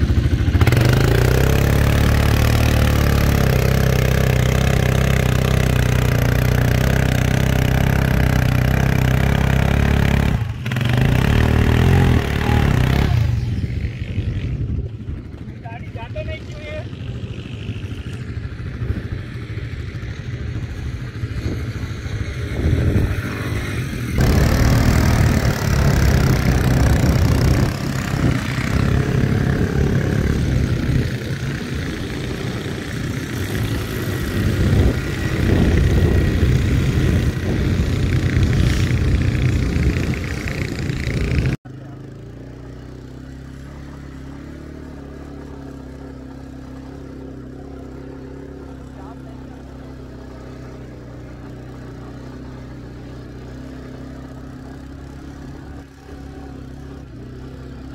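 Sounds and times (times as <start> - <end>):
quad bike engine revving: 0.0 - 57.9.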